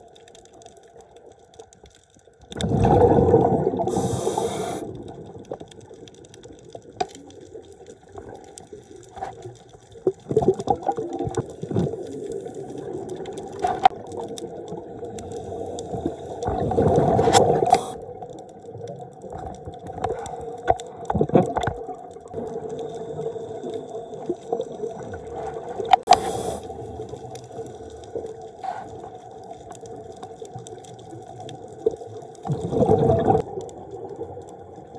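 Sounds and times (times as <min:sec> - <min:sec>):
steady underwater hum: 0:00.0 - 0:21.1, 0:21.8 - 0:34.9
underwater bubbles gurgling: 0:00.0 - 0:34.9.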